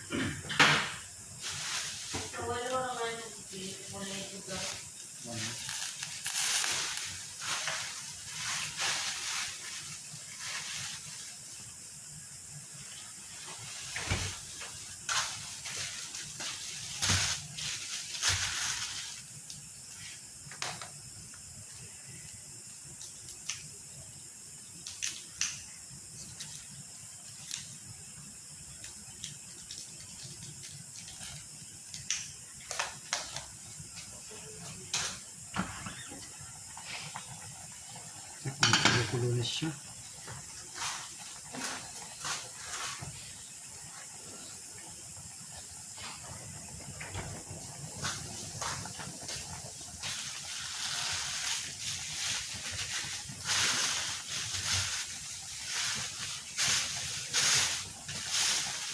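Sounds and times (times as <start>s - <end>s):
pot of soup hissing: 0.0s - 58.9s.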